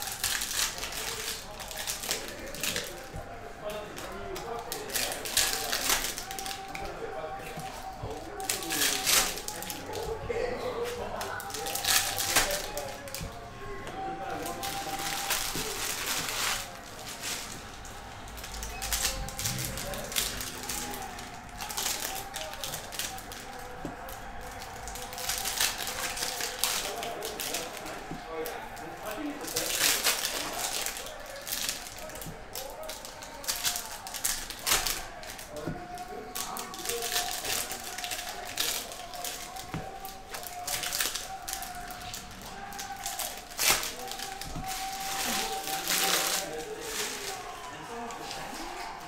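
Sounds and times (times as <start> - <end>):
cards rustling: 0.0 - 49.0
wrappers crinkling and tearing: 0.0 - 49.0.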